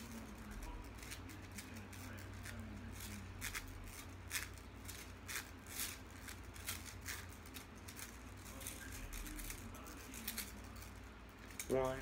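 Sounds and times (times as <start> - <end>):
plastic slinky coils clacking: 0.0 - 12.0.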